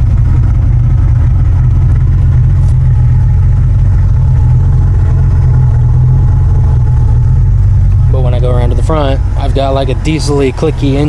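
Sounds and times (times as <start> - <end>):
car exhaust idling: 0.0 - 11.0.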